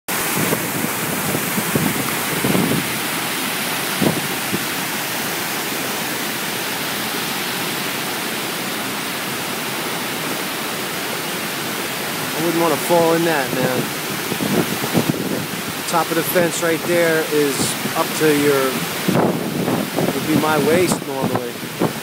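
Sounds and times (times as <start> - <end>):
floodwater rushing over a dam: 0.1 - 22.0.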